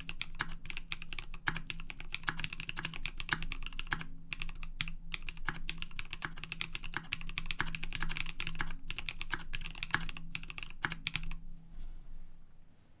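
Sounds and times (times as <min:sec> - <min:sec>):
mechanical keyboard typing: 0:00.0 - 0:11.4.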